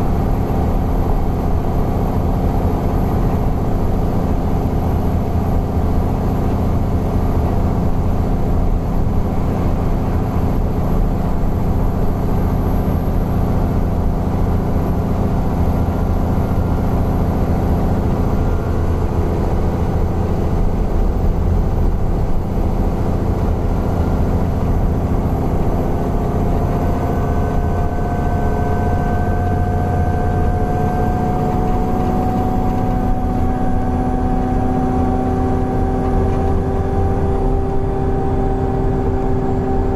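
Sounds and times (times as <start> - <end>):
bus engine drone: 0.0 - 39.9
rising whine: 0.0 - 39.9.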